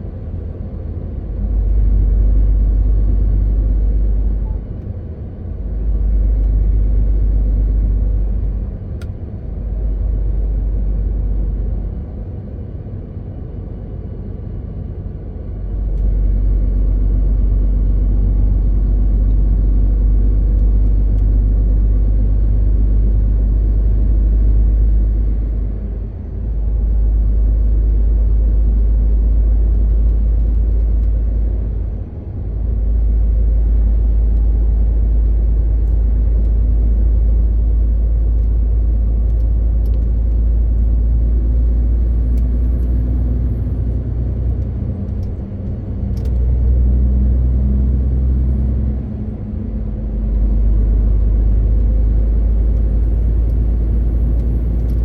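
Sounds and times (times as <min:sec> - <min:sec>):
diesel truck engine driving: 0:00.0 - 0:55.0.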